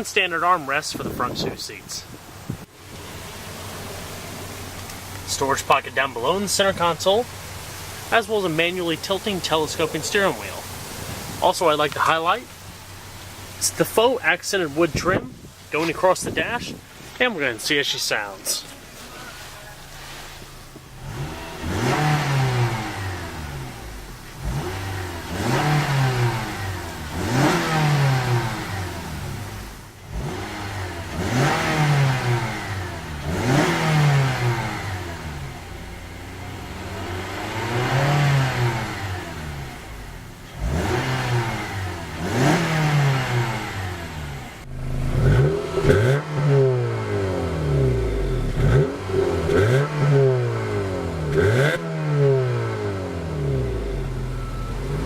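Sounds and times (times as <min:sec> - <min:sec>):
car engine revving: 0:00.6 - 0:55.0.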